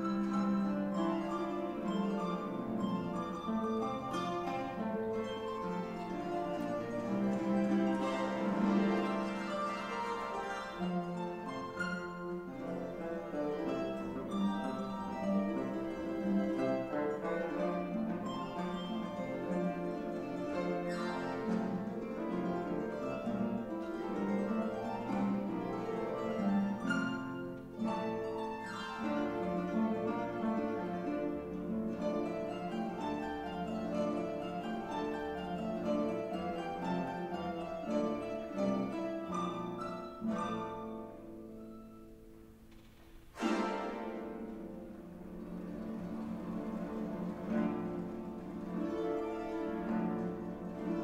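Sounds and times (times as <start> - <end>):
harp playing plucked notes: 0.0 - 51.0.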